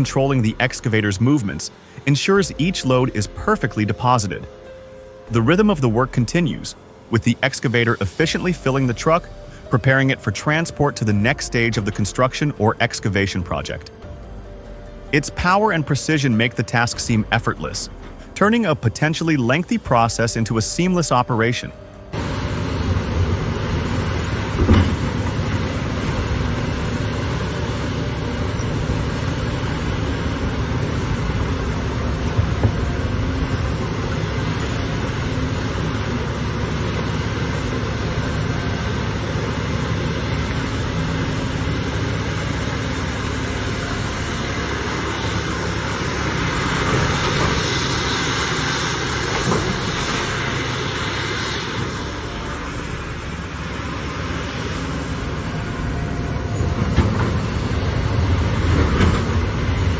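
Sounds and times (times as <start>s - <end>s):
heavy machinery engine drone: 0.0s - 59.9s.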